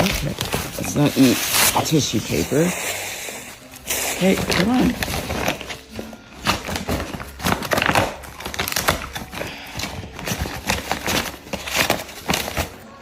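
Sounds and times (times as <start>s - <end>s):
paper crinkling and rustling: 0.0s - 2.7s, 3.7s - 13.0s.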